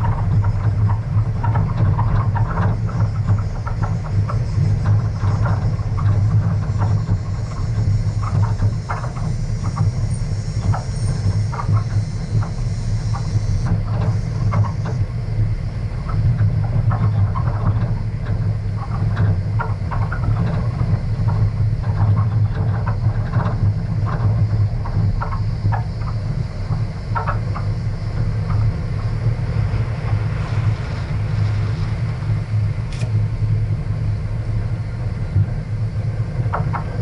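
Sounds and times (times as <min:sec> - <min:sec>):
gravel rattling and crunching: 0:00.0 - 0:37.0
low engine drone: 0:00.0 - 0:37.0.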